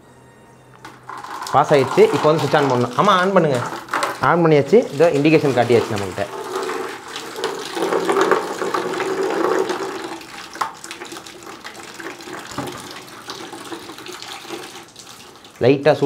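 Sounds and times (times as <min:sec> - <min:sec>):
water pouring from pipe: 0:00.9 - 0:16.0.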